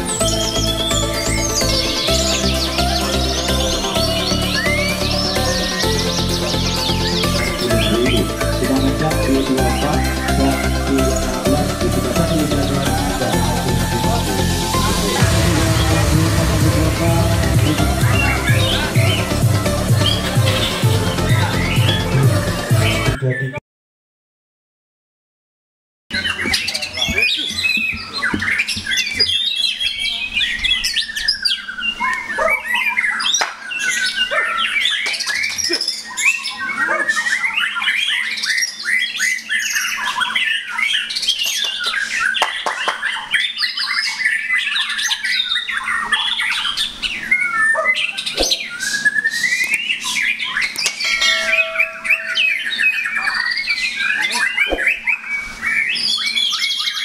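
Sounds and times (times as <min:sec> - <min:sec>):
songbirds singing loudly: 0:00.0 - 0:23.6, 0:26.1 - 0:57.0.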